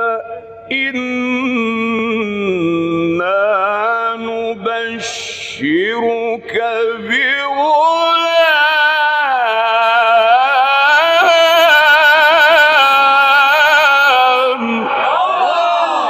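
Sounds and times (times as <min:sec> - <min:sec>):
man reciting melodic chant: 0:00.0 - 0:14.9.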